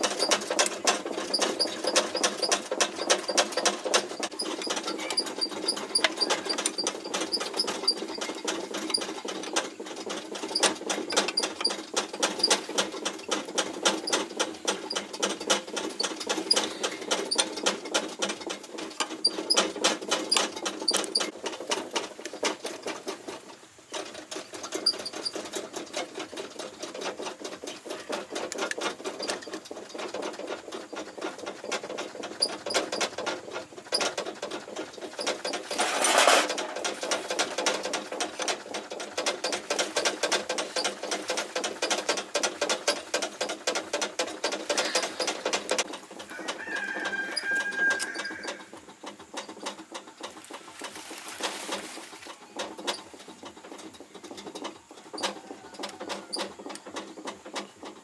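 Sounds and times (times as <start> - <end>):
rapid clicking and scraping: 0.0 - 58.0.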